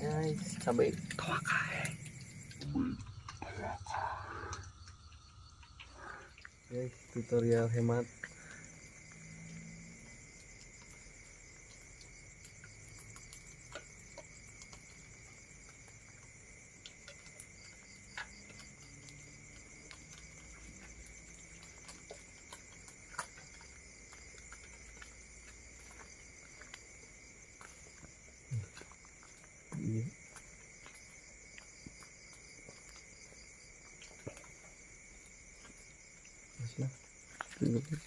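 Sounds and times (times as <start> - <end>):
night insects chirring: 0.0 - 38.0.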